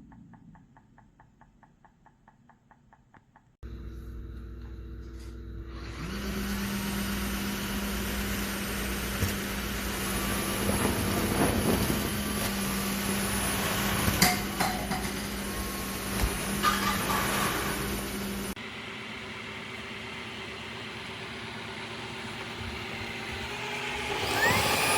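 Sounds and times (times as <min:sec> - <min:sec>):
vacuum motor humming: 0:03.7 - 0:16.7, 0:17.7 - 0:24.9.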